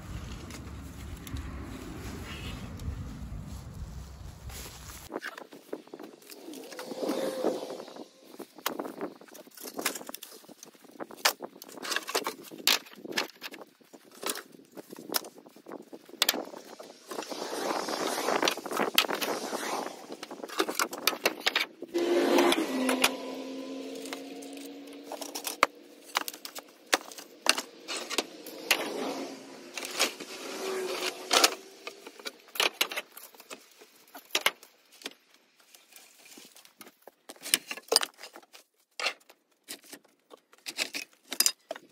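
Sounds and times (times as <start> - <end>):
rustling and scraping: 0.0 - 41.9.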